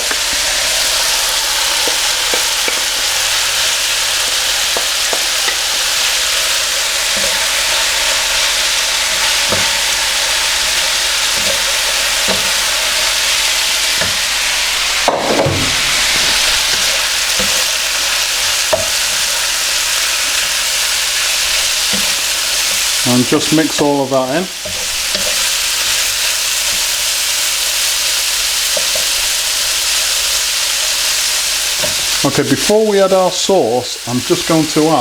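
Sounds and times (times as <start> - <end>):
utensil scraping wok: 0.0 - 32.4
food sizzling in hot oil: 0.0 - 35.0.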